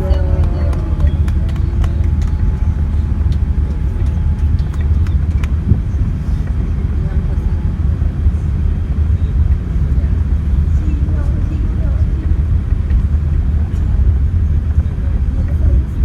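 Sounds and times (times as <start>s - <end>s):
aircraft cabin low rumble: 0.0s - 16.0s.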